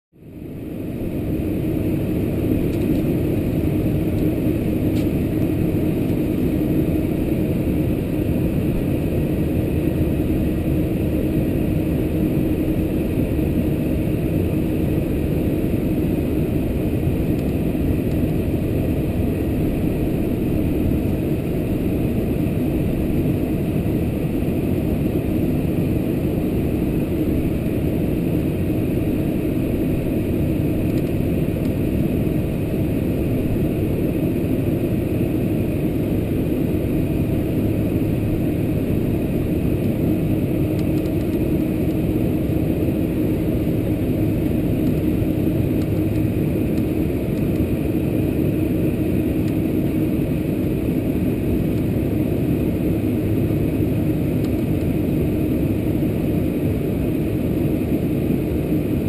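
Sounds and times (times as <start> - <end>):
airplane cabin engine drone: 0.2 - 59.0.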